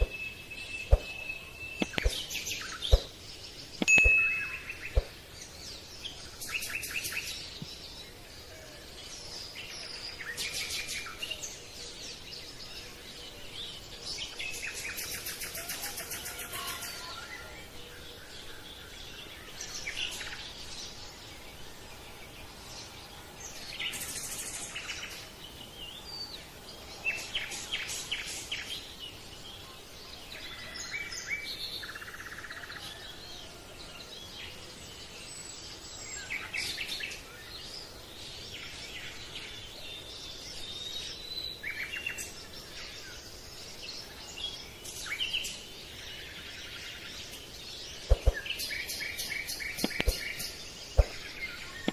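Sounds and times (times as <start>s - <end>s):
birds chirping and singing: 0.0s - 51.9s
steady background hiss: 0.0s - 51.9s.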